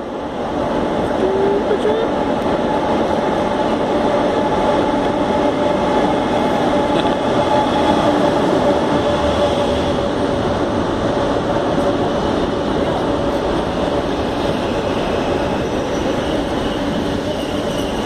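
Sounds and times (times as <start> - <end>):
train running noise: 0.0 - 18.0
train whining tones: 1.0 - 18.0.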